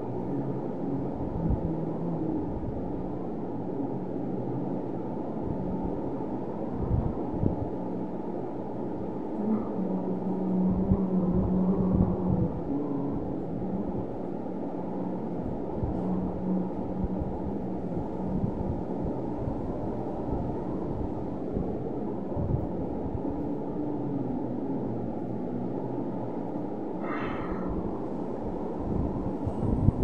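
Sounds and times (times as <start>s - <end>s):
low rumbling background noise: 0.0s - 30.0s.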